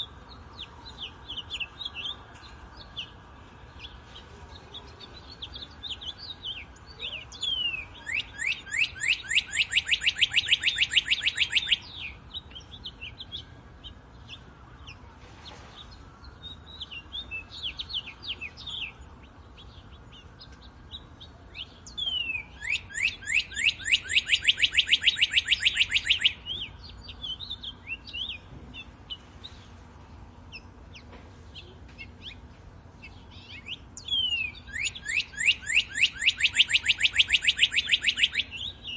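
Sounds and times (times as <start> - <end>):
soft bird chirps: 0.0 - 38.9.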